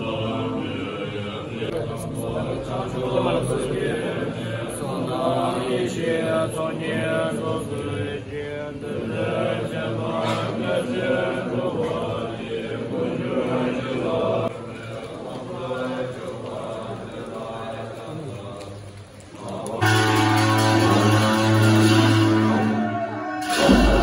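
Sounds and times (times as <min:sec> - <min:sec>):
monks chanting in unison: 0:00.0 - 0:24.0.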